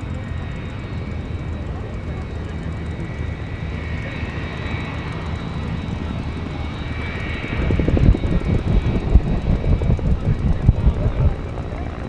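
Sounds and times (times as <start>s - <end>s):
turbine engine running: 0.0s - 12.0s.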